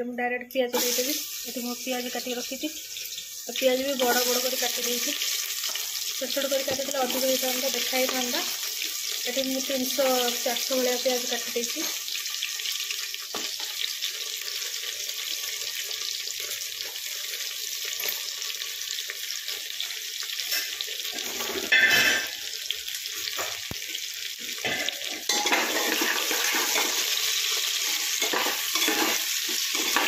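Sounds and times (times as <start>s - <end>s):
onions sizzling in hot oil: 0.6s - 30.0s
spatula stirring onions: 0.8s - 9.4s, 12.0s - 21.3s, 22.4s - 30.0s.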